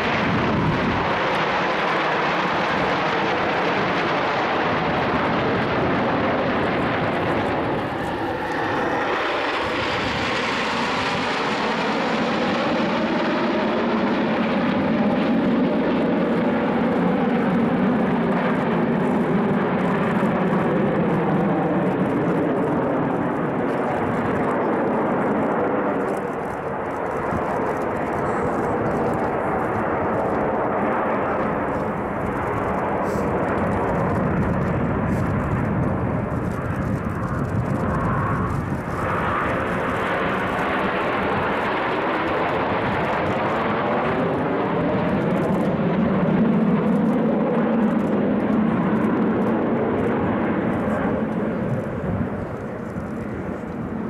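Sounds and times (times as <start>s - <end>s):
jet engines passing overhead: 0.0s - 54.0s.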